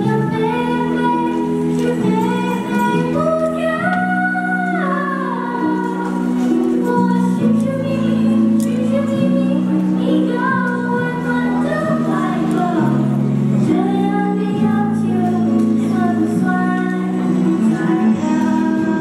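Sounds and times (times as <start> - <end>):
instrumental accompaniment: 0.0 - 19.0.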